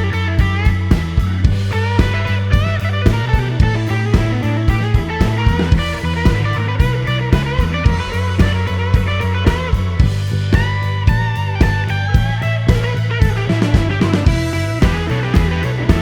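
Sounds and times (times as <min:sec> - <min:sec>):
electric guitar rock music: 0:00.0 - 0:16.0
steady drum beat: 0:00.0 - 0:16.0
sustained bass line: 0:00.0 - 0:16.0.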